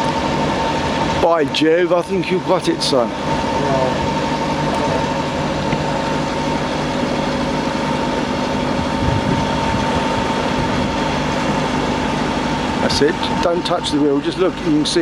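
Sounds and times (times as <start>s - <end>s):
boat engine humming with whine: 0.0s - 15.0s.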